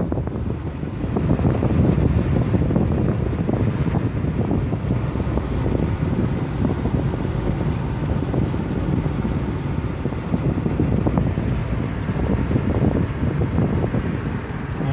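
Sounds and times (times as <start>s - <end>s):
moving car rumble: 0.0s - 14.9s
wind buffeting microphone: 0.0s - 14.9s.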